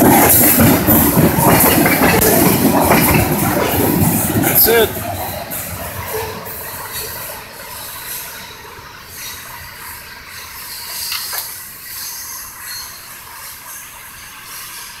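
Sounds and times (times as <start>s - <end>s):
train wheels hissing on rails: 0.0s - 15.0s.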